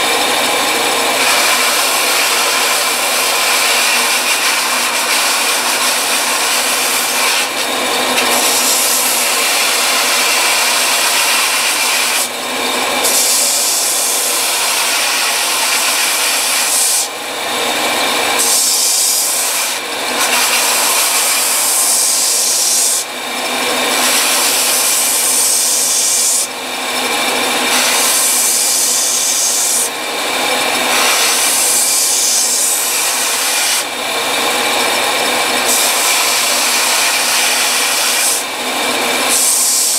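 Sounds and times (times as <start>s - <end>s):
belt sander grinding wood: 0.0s - 39.9s.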